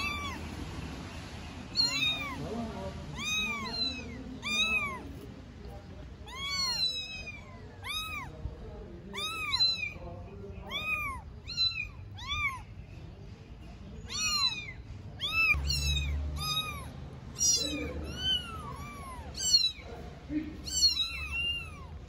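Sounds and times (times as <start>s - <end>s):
kittens meowing: 0.0s - 22.0s.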